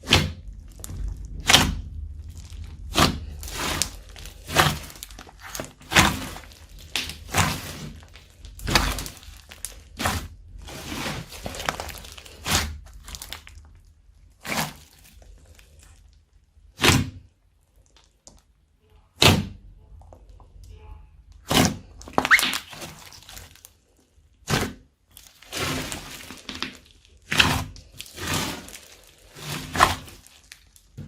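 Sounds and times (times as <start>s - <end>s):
slime popping and squelching: 0.0s - 18.5s, 21.4s - 31.0s.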